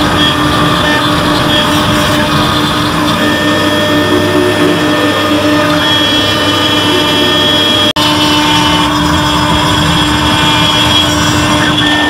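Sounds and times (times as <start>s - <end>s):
engraving router whining: 0.0s - 12.0s
grinding hiss: 0.0s - 12.0s.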